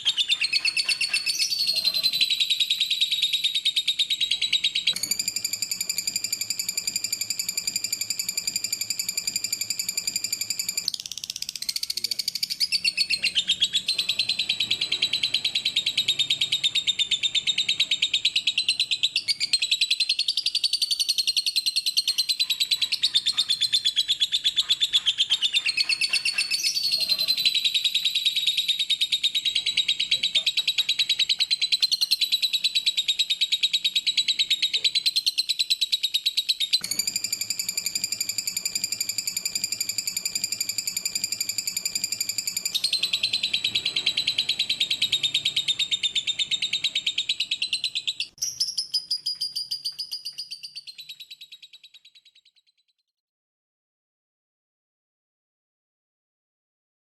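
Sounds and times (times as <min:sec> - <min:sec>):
lovebird chattering trill: 0:00.0 - 0:52.5.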